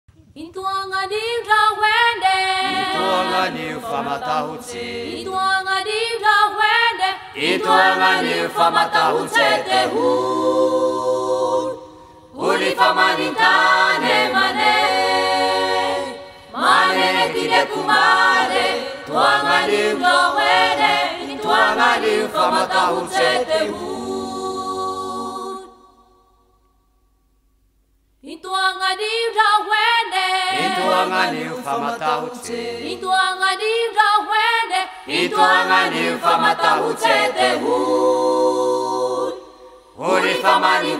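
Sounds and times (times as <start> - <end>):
choir singing unaccompanied: 0.8 - 26.2, 28.4 - 40.9.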